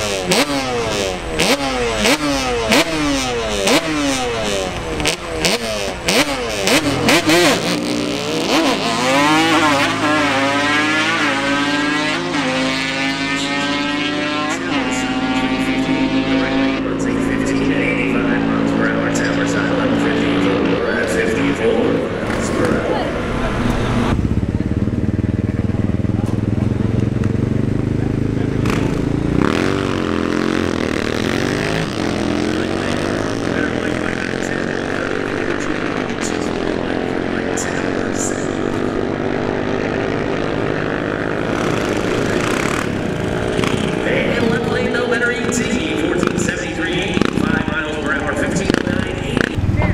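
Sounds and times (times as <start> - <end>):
engines revving and accelerating: 0.0 - 49.9.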